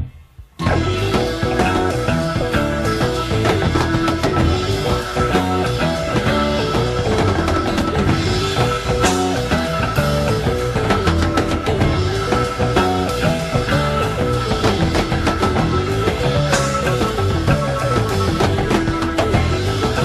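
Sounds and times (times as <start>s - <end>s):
drum kit: 0.0s - 20.0s
quick stepping melodic line: 0.6s - 20.0s.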